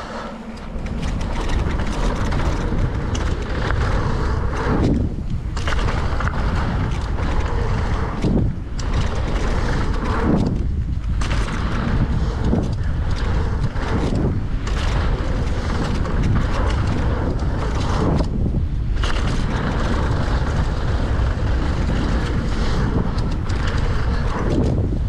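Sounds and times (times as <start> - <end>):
strong wind buffeting microphone: 0.0 - 25.0.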